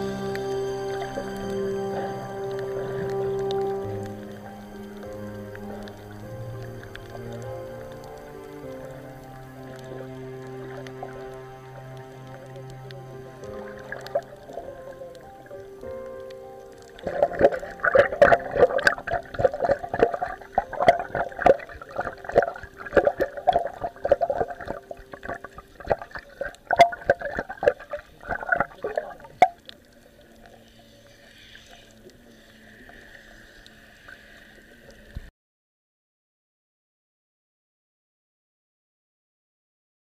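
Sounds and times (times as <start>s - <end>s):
faint steady hiss: 0.0s - 35.3s
water bubbling and gurgling: 0.0s - 35.3s.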